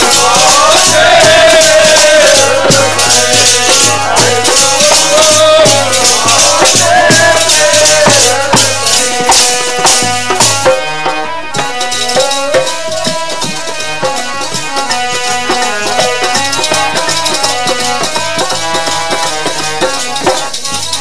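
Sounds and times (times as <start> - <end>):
drum beating steady rhythm: 0.0 - 21.0.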